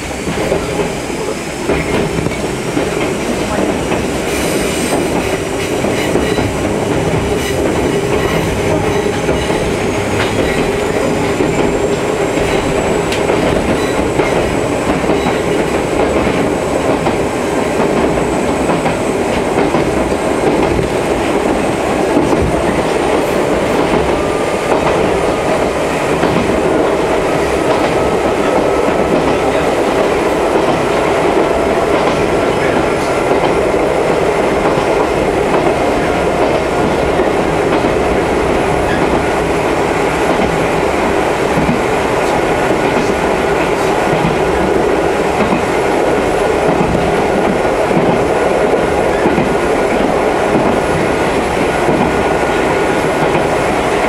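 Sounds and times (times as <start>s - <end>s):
clickety-clack of rail joints: 0.0s - 54.0s
train wheels rumbling on track: 0.0s - 54.0s.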